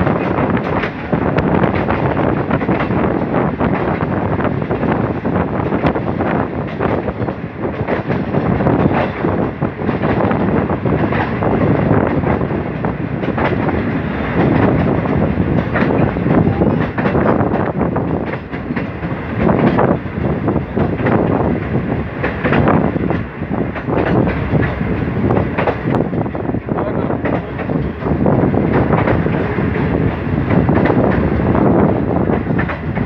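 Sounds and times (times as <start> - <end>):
clickety-clack over rail joints: 0.0 - 33.0
train wheels rumbling: 0.0 - 33.0.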